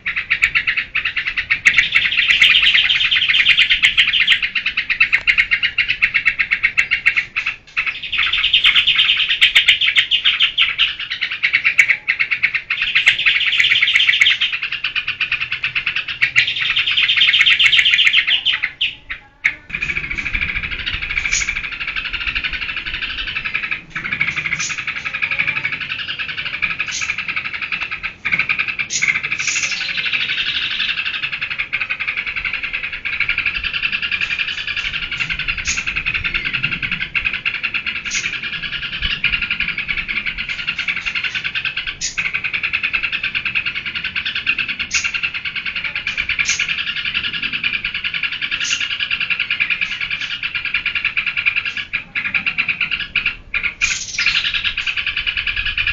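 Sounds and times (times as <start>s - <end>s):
bulbul chattering song: 0.0s - 55.9s.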